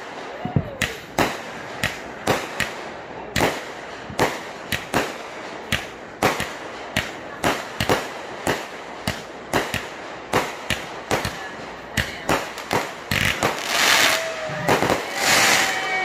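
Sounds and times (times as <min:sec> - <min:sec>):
firework bangs: 0:00.0 - 0:16.0
fireworks hissing crackle: 0:00.0 - 0:16.0.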